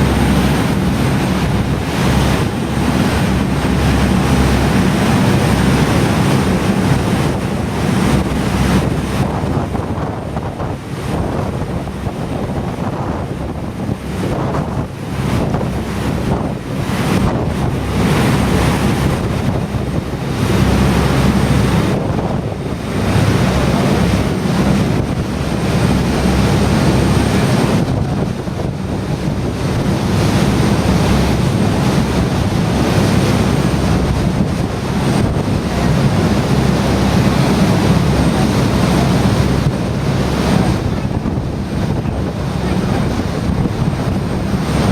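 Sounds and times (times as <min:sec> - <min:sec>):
low steady boat rumble: 0:00.0 - 0:44.9
rushing water: 0:00.0 - 0:44.9
wind buffeting microphone: 0:00.0 - 0:44.9.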